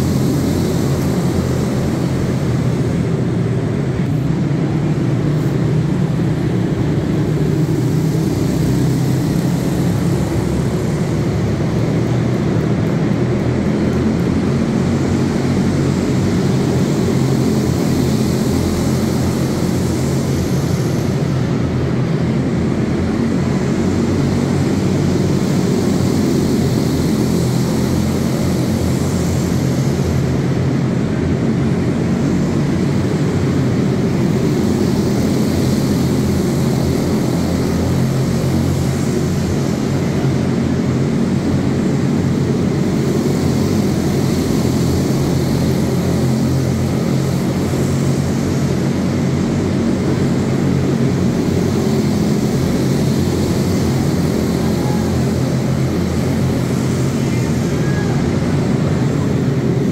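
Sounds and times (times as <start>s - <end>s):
race car engines buzzing: 0.0s - 59.9s.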